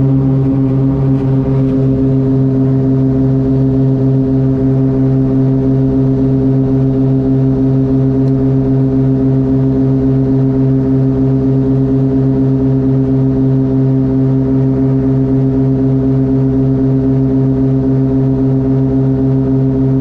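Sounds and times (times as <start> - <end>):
propeller aircraft engines droning: 0.0 - 20.0.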